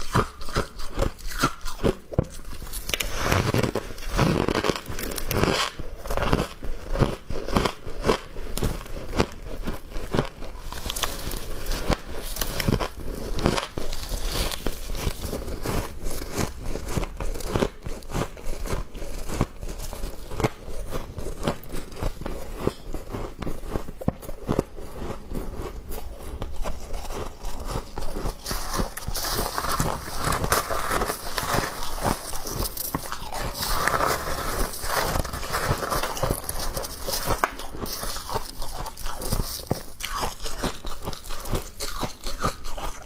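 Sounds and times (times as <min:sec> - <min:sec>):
chewing crunchy ice: 0:00.0 - 0:43.0.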